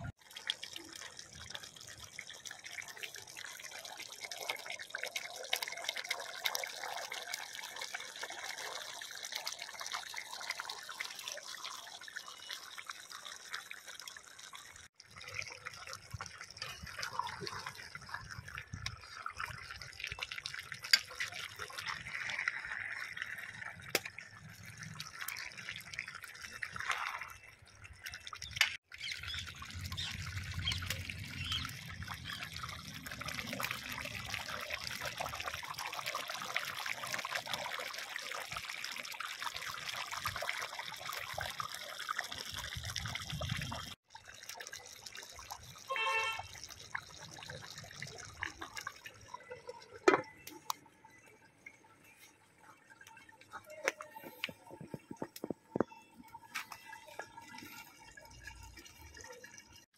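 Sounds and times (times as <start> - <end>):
curry boiling and bubbling: 0.0 - 59.9.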